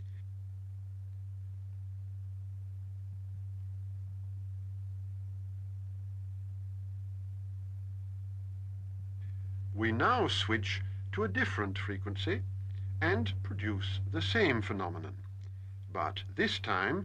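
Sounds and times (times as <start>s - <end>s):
steady low pure tone: 0.0s - 17.0s.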